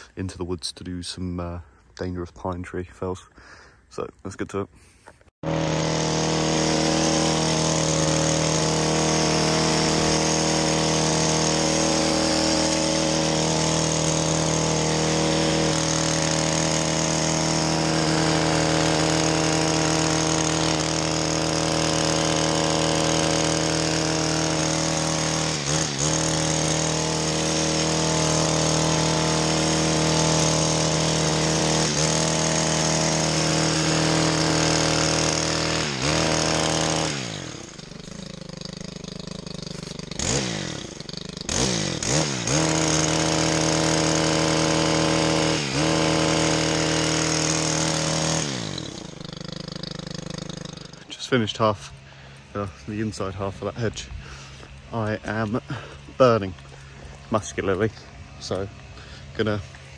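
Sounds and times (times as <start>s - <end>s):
petrol hedge trimmer running: 5.0s - 59.9s.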